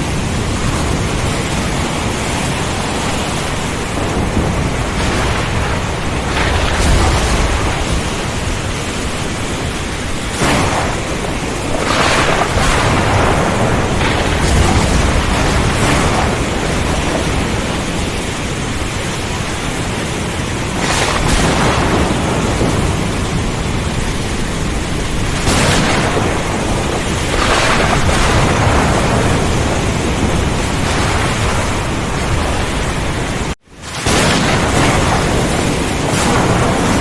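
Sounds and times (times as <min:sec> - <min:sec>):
sharp thunder cracks: 0:00.0 - 0:19.9, 0:20.5 - 0:37.0
heavy rain: 0:00.0 - 0:37.0
low rumbling thunder: 0:00.0 - 0:37.0
strong wind: 0:00.0 - 0:37.0.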